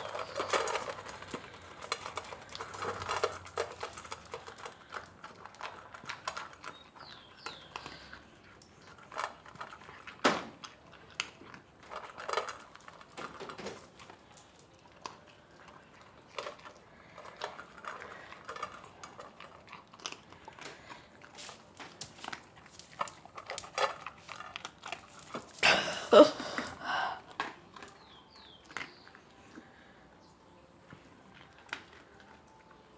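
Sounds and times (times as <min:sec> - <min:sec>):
dog chewing and crunching: 0:00.0 - 0:29.9, 0:30.5 - 0:32.9.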